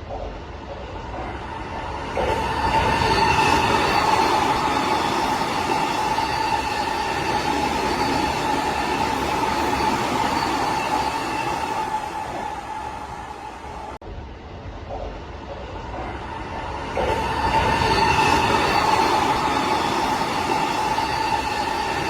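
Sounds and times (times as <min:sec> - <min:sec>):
commuter train high whine: 0:00.0 - 0:22.0
wheels rumbling on rails: 0:00.0 - 0:22.0.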